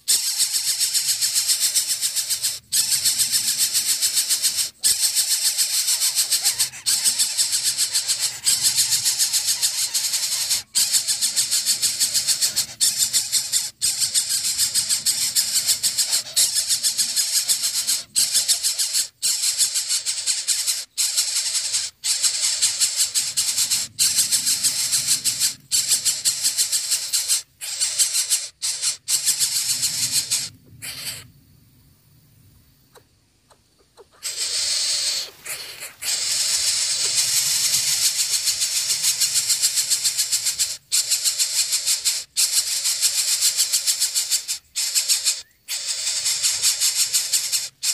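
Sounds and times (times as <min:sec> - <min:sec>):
nestlings rasping hiss: 0:00.0 - 0:31.4, 0:34.0 - 0:47.9.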